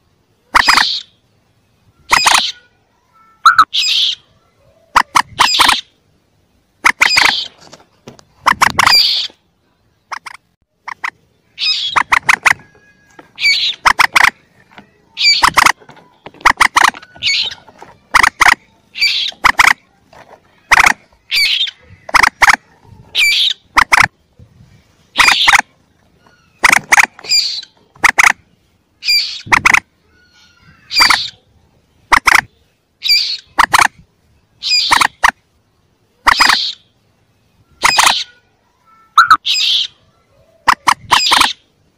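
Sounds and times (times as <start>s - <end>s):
moorhen calls: 0.4s - 2.8s, 3.4s - 6.0s, 6.8s - 7.7s, 8.3s - 9.4s, 10.0s - 34.0s, 34.6s - 35.4s, 36.1s - 37.0s, 37.6s - 38.5s, 39.1s - 41.7s.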